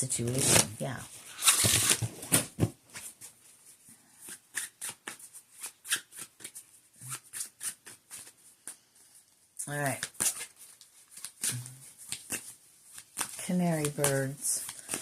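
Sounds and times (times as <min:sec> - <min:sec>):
cards being shuffled: 0:00.2 - 0:03.3, 0:04.2 - 0:08.8, 0:09.7 - 0:15.0.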